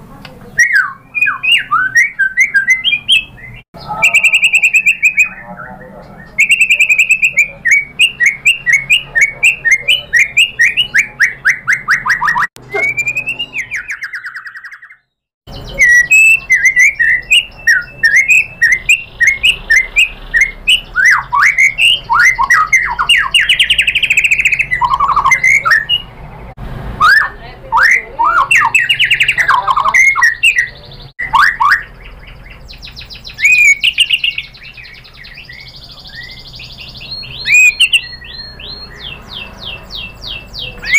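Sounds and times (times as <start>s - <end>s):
bird singing: 0.4s - 40.9s.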